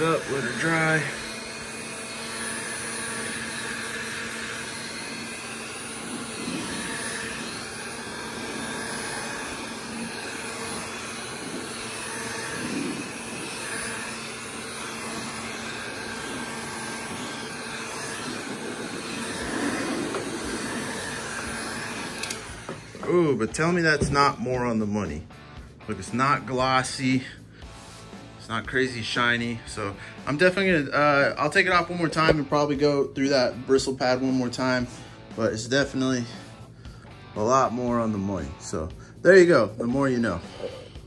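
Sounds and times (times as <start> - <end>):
heat gun fan humming: 0.0 - 38.1.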